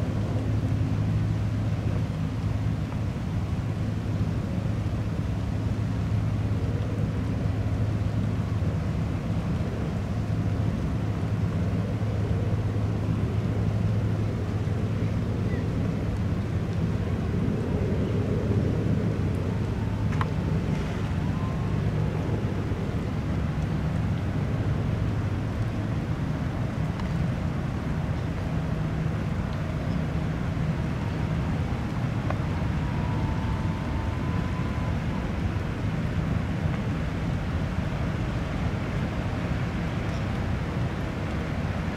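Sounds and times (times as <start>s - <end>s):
low rumble of large ship: 0.0s - 41.9s
wind noise on microphone: 0.0s - 41.9s.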